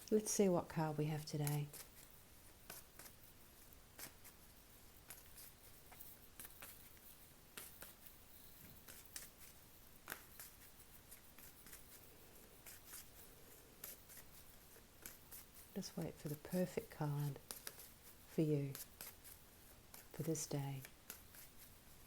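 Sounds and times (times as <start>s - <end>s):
cards being shuffled by hand: 1.2s - 22.0s.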